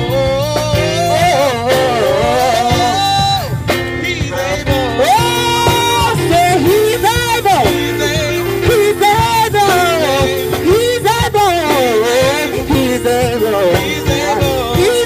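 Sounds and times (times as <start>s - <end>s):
drums: 0.0s - 15.0s
held keyboard chords: 0.0s - 15.0s
singer's wordless vocal runs: 0.0s - 15.0s.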